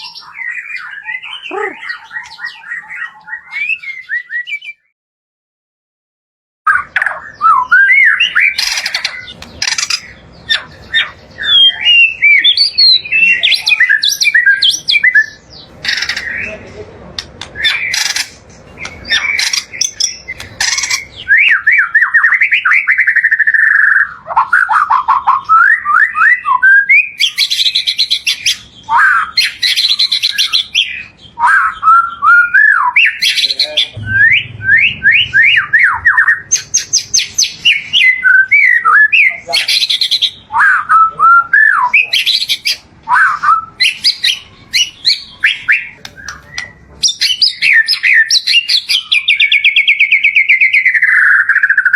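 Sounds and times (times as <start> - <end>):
bird singing varied song: 0.0 - 4.9, 6.7 - 51.9.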